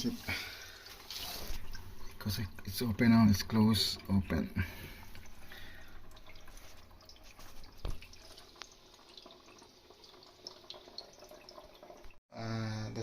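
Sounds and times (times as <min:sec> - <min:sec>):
water trickling and dripping: 0:00.0 - 0:12.2.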